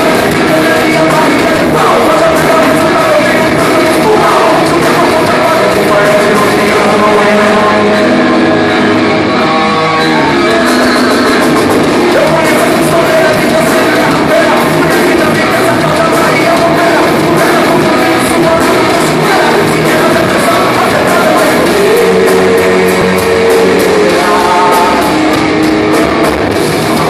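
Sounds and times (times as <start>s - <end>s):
person singing: 0.0s - 25.4s
live rock band playing: 0.0s - 27.0s.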